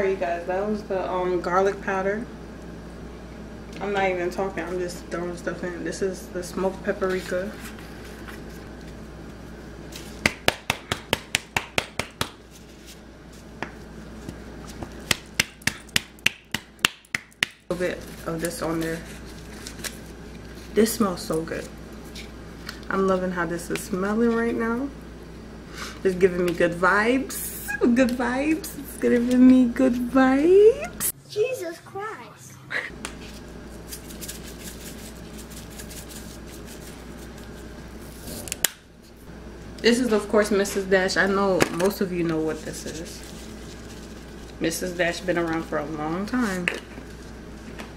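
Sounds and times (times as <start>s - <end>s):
stockpot heating on stove hum: 0.0s - 31.2s, 32.7s - 47.9s.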